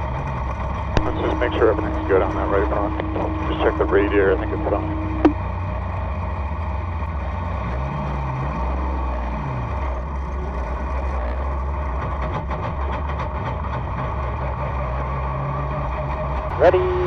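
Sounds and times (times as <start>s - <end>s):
race car engine at low revs: 0.0s - 17.0s.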